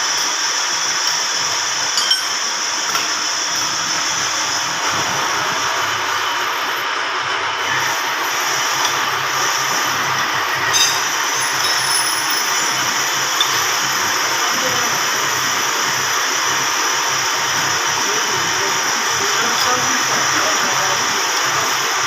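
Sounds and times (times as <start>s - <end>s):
grinding machine grinding metal: 0.0s - 22.0s.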